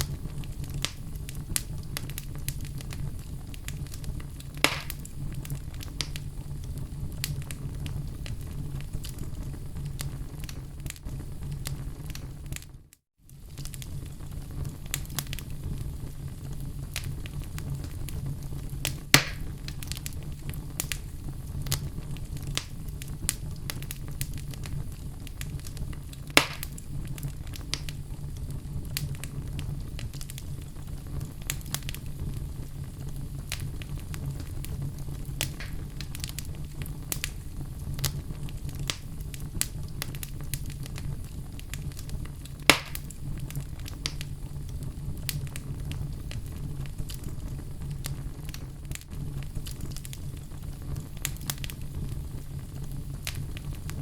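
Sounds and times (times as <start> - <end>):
fire pops: 0.0 - 54.0
fire rumbling and crackling: 0.0 - 54.0.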